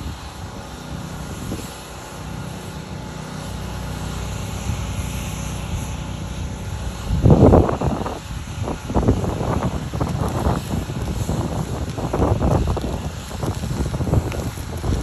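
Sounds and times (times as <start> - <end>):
wind buffeting microphone: 0.0 - 2.2, 4.4 - 15.0
motor running: 0.0 - 15.0.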